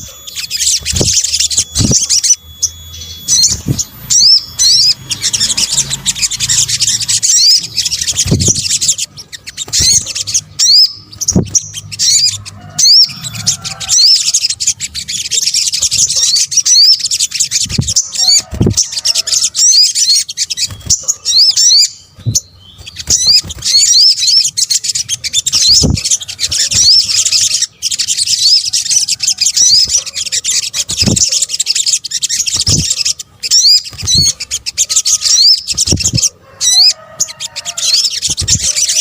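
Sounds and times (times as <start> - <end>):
birds chirping and singing: 0.0 - 39.0.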